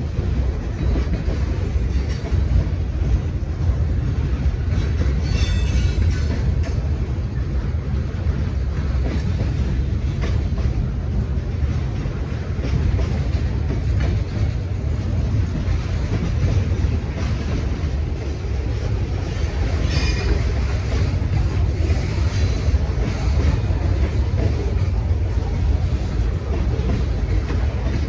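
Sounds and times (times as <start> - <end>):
train wheels rumbling on rail: 0.0 - 28.0
wheels clicking over rail joints: 0.1 - 28.0.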